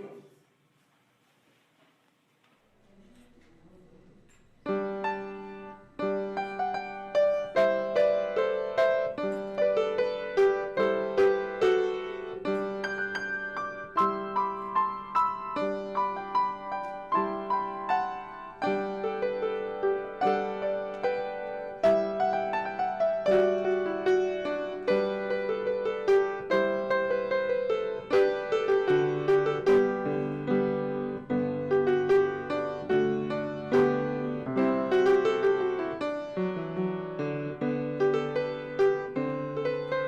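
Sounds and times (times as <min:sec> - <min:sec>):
piano playing: 0:04.6 - 0:40.0.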